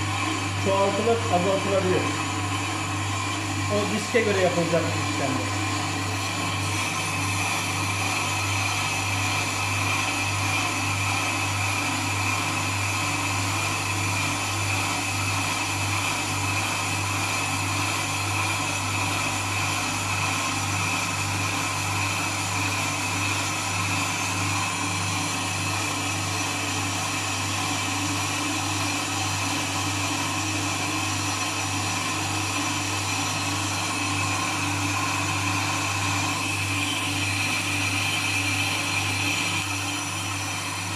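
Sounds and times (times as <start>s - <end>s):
lathe motor hum with whine: 0.0s - 40.9s.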